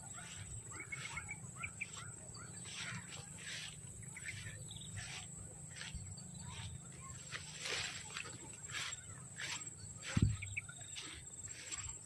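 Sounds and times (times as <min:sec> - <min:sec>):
faint bird chirps: 0:00.0 - 0:12.0
footsteps swishing through grass: 0:00.0 - 0:12.0.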